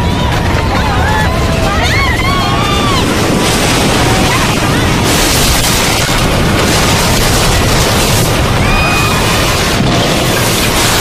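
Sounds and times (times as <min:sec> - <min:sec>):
volcanic eruption roar and rumble: 0:00.0 - 0:11.0.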